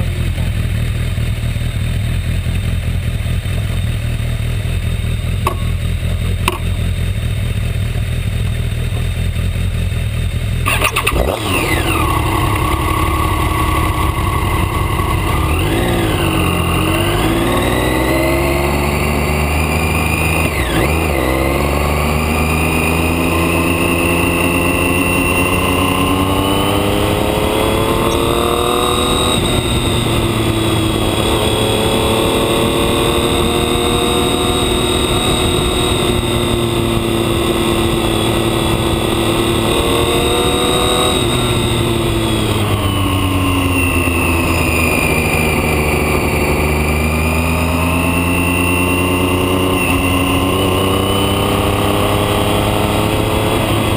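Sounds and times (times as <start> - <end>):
motorcycle engine: 0.0 - 53.9.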